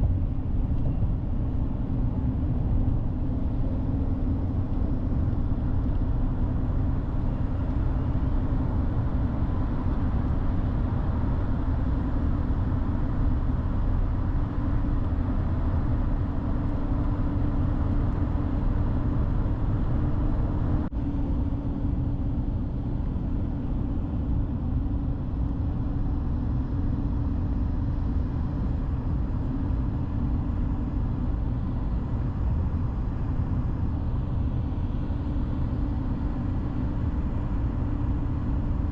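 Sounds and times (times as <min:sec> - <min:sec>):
truck cab road and engine drone: 0:00.0 - 0:38.9.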